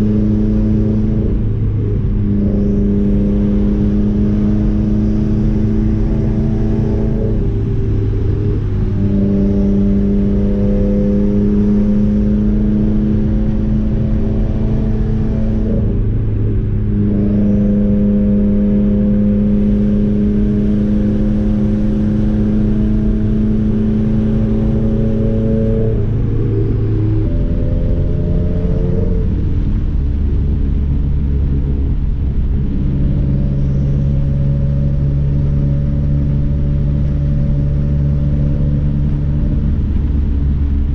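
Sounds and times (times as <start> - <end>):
car exhaust from inside cabin: 0.0 - 40.9.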